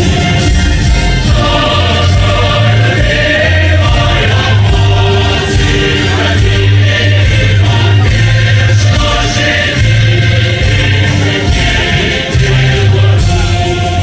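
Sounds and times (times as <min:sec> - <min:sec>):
choir singing with instruments: 0:00.0 - 0:14.0.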